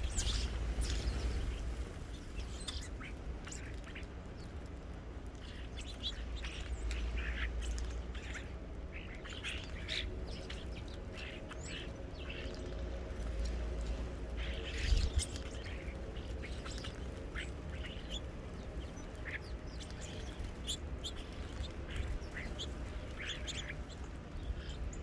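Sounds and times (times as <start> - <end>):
low steady rumble: 0.0 - 25.0
small birds chirping: 0.0 - 25.0.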